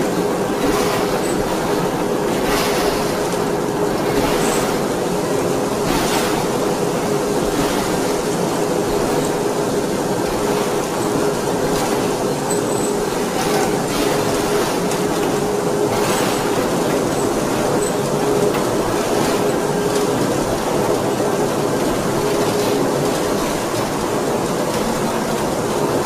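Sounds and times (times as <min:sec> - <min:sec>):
machine hum: 0:00.0 - 0:26.0
mechanical rolling noise: 0:00.0 - 0:26.0.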